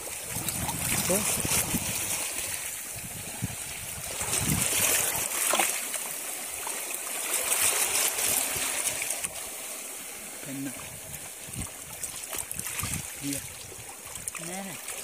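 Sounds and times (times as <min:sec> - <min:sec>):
shallow water sloshing: 0:00.0 - 0:15.0.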